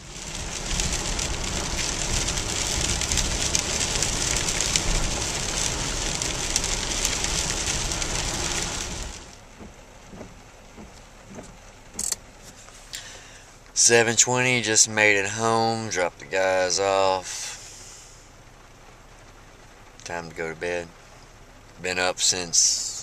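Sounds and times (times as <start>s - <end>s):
rain and tyres on wet road: 0.0s - 23.0s.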